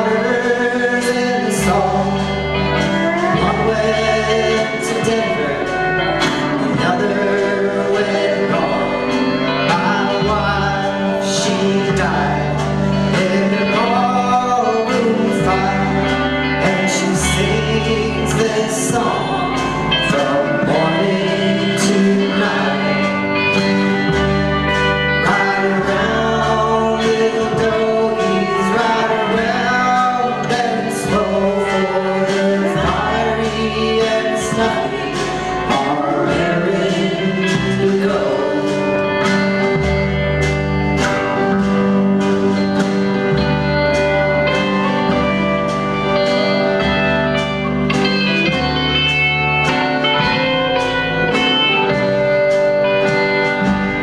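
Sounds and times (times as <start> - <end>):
acoustic guitar: 0.0 - 54.0
drums: 0.0 - 54.0
pedal steel guitar: 0.0 - 54.0
person singing: 0.0 - 54.0
upright bass: 0.0 - 54.0.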